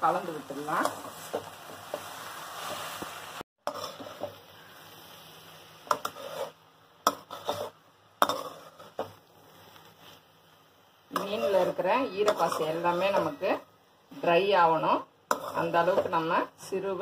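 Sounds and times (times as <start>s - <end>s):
fish sizzling: 0.0s - 17.0s
metal spatula scraping a pan: 0.1s - 4.8s, 5.8s - 10.2s, 11.1s - 13.6s, 14.2s - 16.5s.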